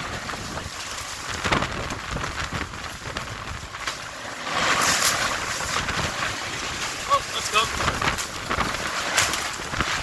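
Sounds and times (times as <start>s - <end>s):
strong gusting wind: 0.0s - 10.0s
wind buffeting microphone: 0.0s - 10.0s.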